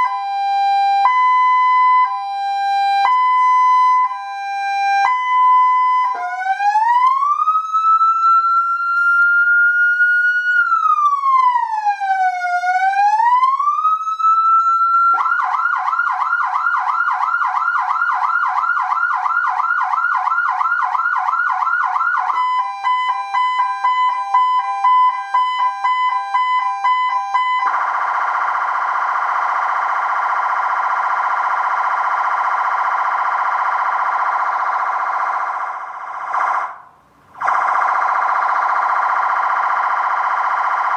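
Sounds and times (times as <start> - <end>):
electronic siren wailing and yelping: 0.0 - 40.9.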